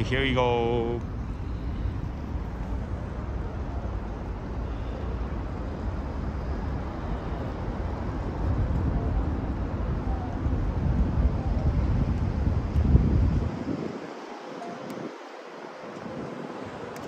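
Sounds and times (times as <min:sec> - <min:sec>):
distant traffic: 0:00.0 - 0:17.0
wind buffeting the microphone: 0:00.0 - 0:17.0.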